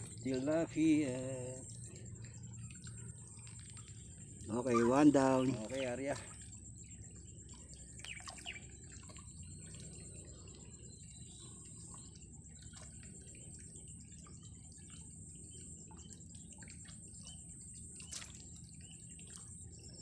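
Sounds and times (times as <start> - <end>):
insect chirring: 0.0 - 20.0.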